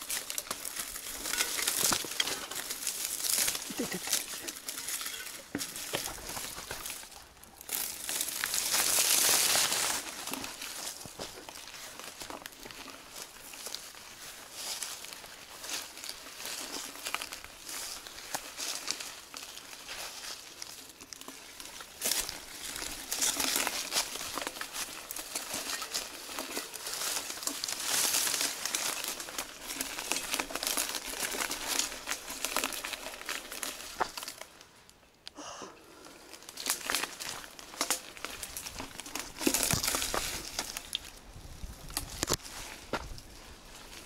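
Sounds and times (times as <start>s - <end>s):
leaves and gravel crunching: 0.0s - 35.1s, 35.8s - 44.0s.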